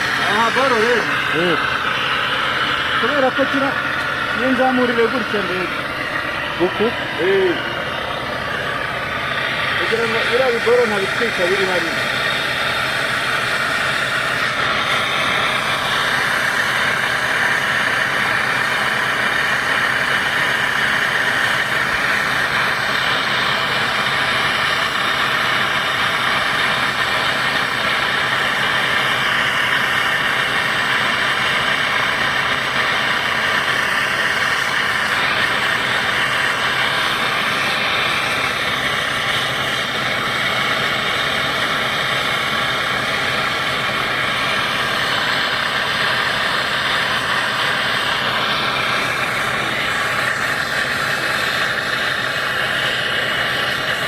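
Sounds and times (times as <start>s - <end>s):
torch flame hissing: 0.0s - 54.0s.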